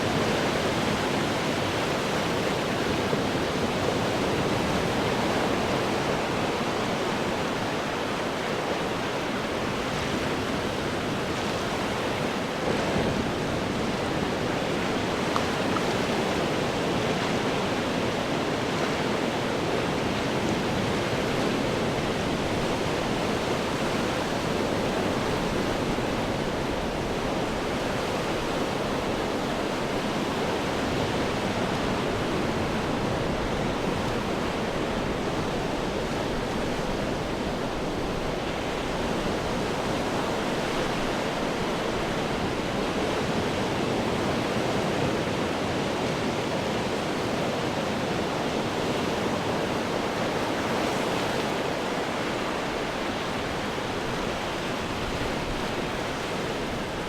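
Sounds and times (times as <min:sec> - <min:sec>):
ocean waves on rocks: 0:00.0 - 0:57.0.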